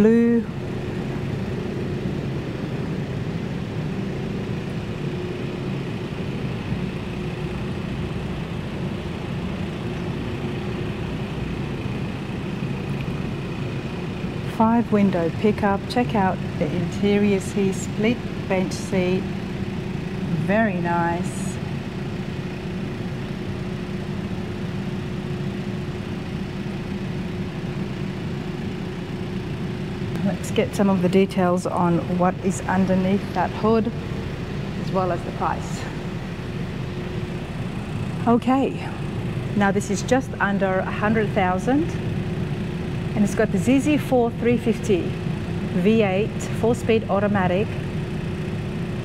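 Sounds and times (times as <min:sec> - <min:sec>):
faint constant tone: 0:00.0 - 0:49.0
low hum and hiss: 0:00.0 - 0:49.0.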